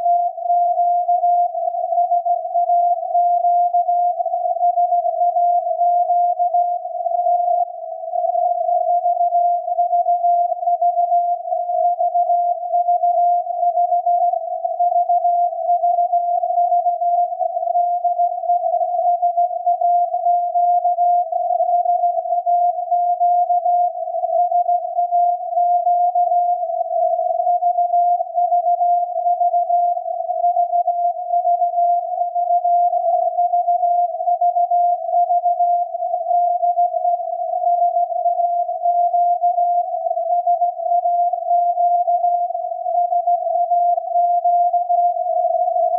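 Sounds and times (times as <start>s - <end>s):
steady wavering radio tone: 0.0s - 45.9s.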